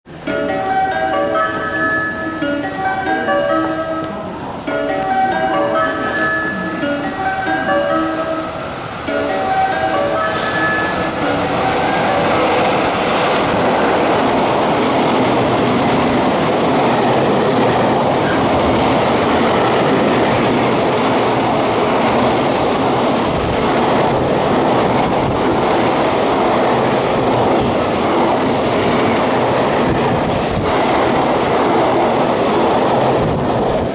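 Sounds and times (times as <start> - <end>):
electric locomotive passing: 0.1 - 33.9
wheels rushing on rails: 0.9 - 33.9.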